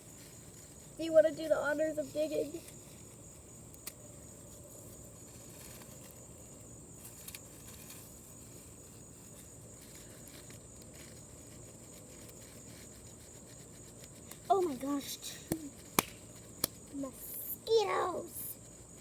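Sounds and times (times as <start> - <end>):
faint insect chorus: 0.0 - 19.0.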